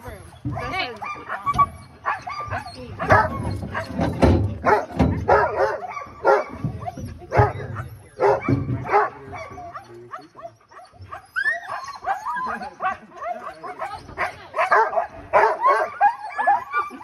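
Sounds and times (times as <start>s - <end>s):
dogs yipping and whining: 0.0s - 17.0s
sled dogs barking: 0.5s - 17.0s.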